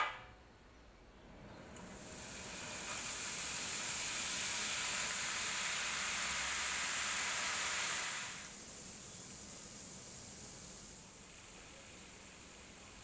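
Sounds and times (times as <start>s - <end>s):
baking soda fizzing: 1.7s - 13.0s.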